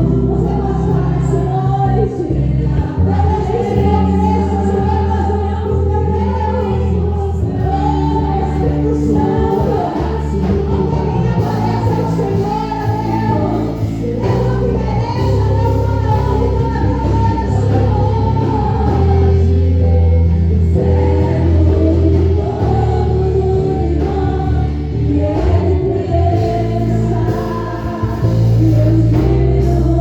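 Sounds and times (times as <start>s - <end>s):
voices singing worship song: 0.0s - 30.0s.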